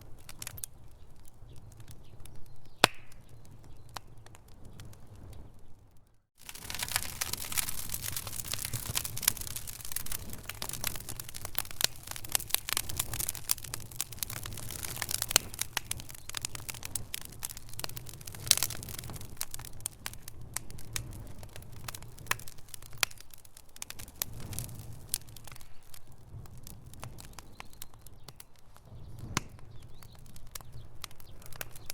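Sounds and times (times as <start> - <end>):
fire snapping and popping: 0.0 - 31.9
low rumble of flames: 0.0 - 31.9.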